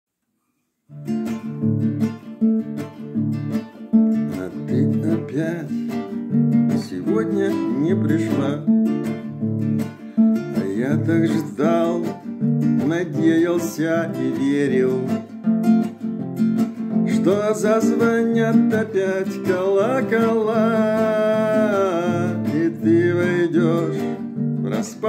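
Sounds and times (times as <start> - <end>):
acoustic guitar strumming chords: 0.9 - 25.0.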